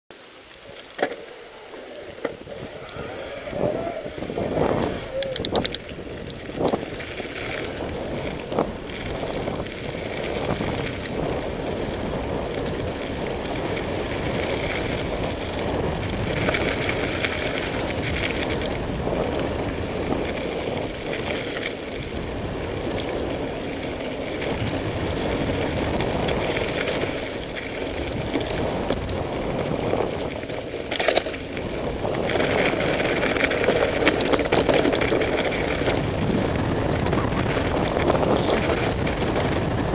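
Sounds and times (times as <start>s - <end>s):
tyres crunching over gravel: 0.3s - 39.9s
bike rattling over bumps: 0.5s - 39.9s
wind buffeting microphone: 2.0s - 39.9s.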